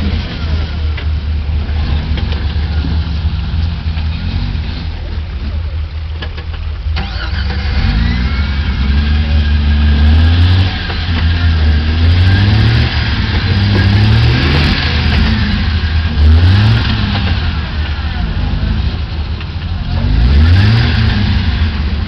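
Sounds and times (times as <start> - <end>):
car engine revving under load: 0.0 - 22.0.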